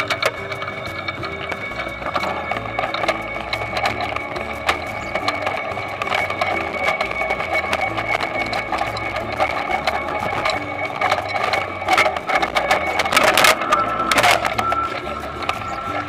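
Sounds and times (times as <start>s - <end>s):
harvesting machine clattering: 0.0s - 16.0s.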